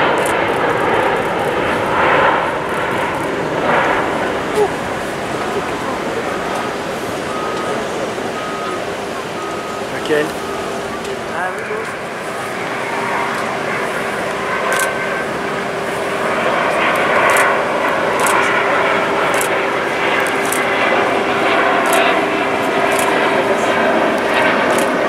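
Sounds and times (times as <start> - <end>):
jet plane flying overhead: 0.0 - 25.0.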